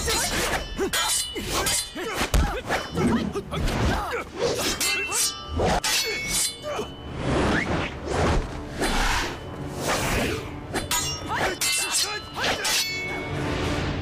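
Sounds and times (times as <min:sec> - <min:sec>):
sword blades clashing: 0:00.0 - 0:07.2, 0:08.8 - 0:13.4
music: 0:00.0 - 0:14.0.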